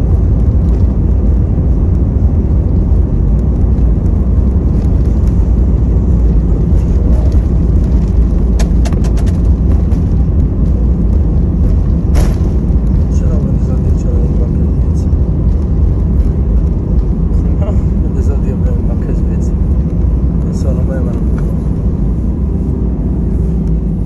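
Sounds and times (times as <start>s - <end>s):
aircraft cabin roar: 0.0s - 24.0s.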